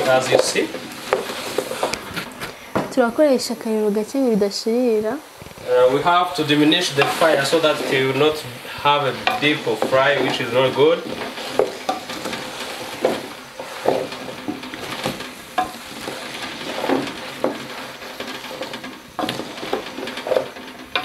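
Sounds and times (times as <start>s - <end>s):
wooden spoon scraping a pot: 0.0s - 2.9s, 5.4s - 21.0s
potatoes sizzling in a pot: 0.0s - 21.0s.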